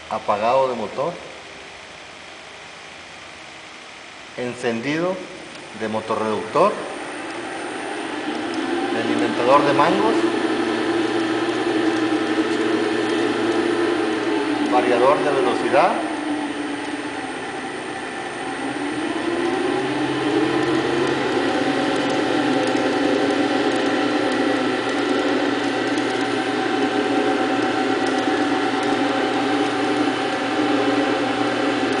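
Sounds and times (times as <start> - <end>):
wood-turning lathe running: 6.2 - 32.0.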